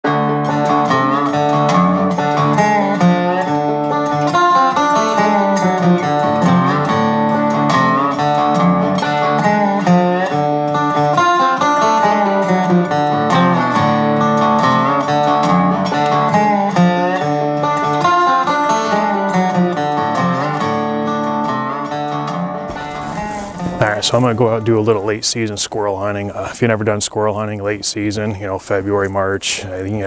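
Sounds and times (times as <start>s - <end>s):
plucked string music: 0.1s - 26.2s.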